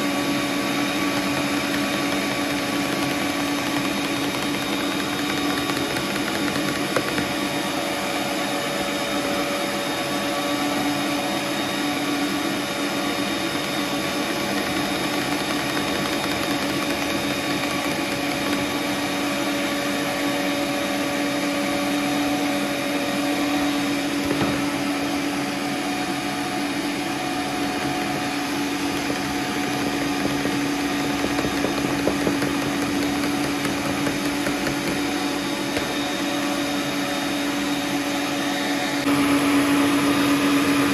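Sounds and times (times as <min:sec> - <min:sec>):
stand mixer motor whirring: 0:00.0 - 0:40.9.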